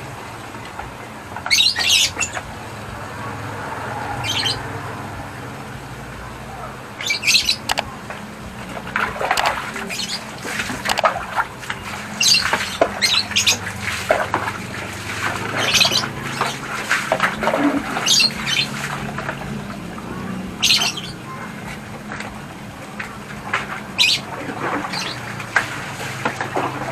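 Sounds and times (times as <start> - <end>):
low steady hum: 0.0 - 26.9
birds squawking: 1.3 - 5.7, 6.3 - 23.1, 23.7 - 26.9.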